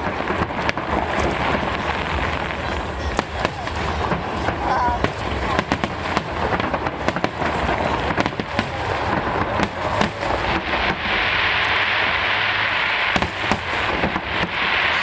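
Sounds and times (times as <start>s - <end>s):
dense steady hiss: 0.0s - 15.0s
fireworks bangs and cracks: 0.0s - 15.0s.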